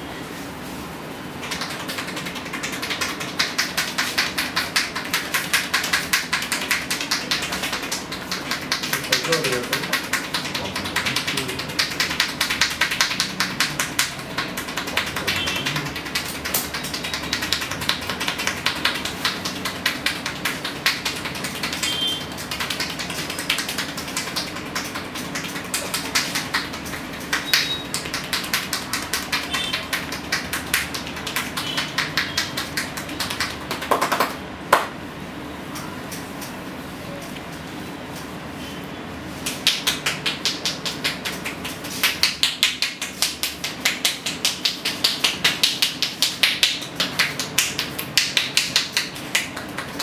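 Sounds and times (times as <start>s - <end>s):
hands tapping on head: 1.4s - 34.9s, 39.4s - 50.0s.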